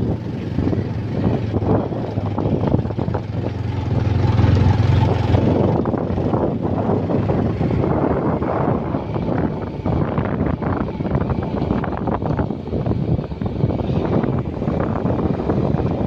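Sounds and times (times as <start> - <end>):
motorcycle engine drone: 0.0 - 16.0
road and wind noise: 0.0 - 16.0.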